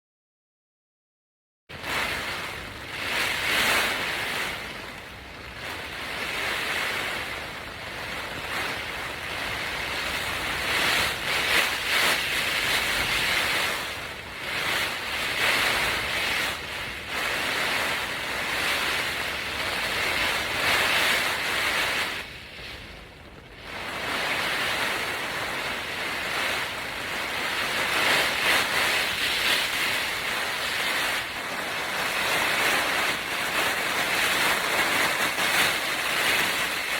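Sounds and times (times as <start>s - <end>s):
strong gusting wind: 1.7s - 36.9s.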